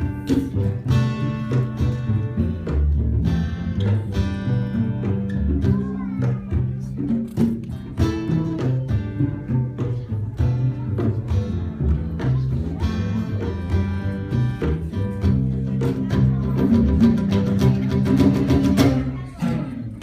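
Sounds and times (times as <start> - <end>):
instrumental music with plucked strings: 0.0 - 20.0.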